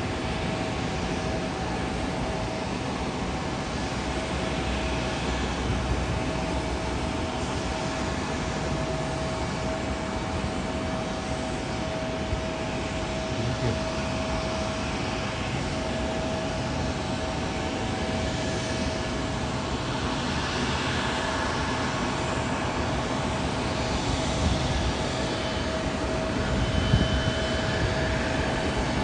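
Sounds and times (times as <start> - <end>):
distant jet engines rushing: 0.0 - 29.0.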